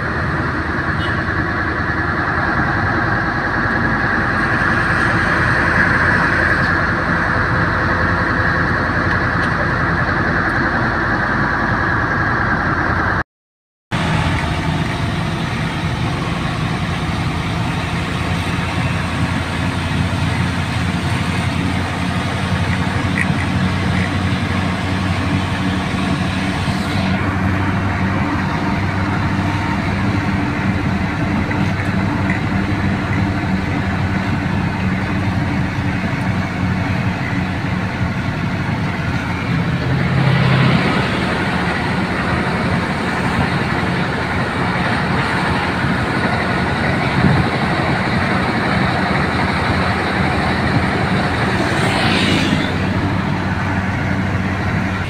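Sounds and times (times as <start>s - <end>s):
road noise: 0.0s - 13.2s, 13.9s - 55.0s
truck diesel engine running: 0.0s - 13.2s, 13.9s - 55.0s.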